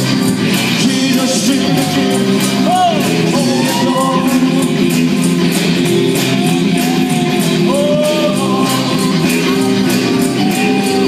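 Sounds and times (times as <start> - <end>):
drum kit beat: 0.0 - 11.0
electric guitars strumming: 0.0 - 11.0
man singing: 0.5 - 11.0.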